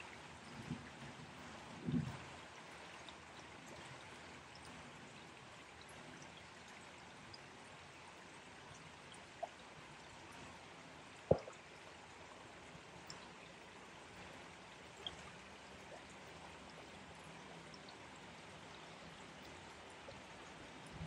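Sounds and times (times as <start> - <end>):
flowing water: 0.0 - 21.0.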